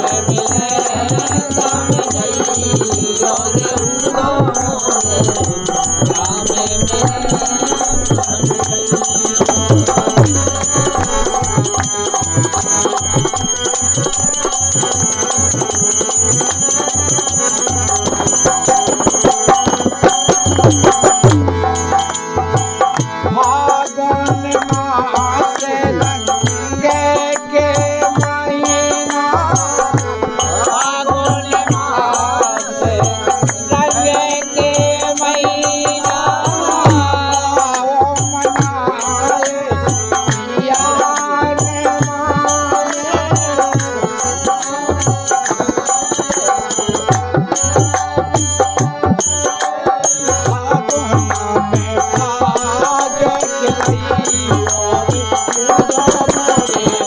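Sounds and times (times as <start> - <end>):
hand cymbals jingling: 0.0 - 57.0
harmonium chords: 0.0 - 57.0.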